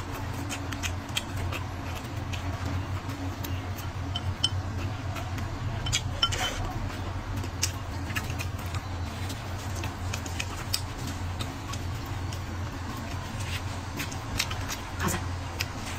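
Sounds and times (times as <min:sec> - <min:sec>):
low background hum: 0:00.0 - 0:15.9.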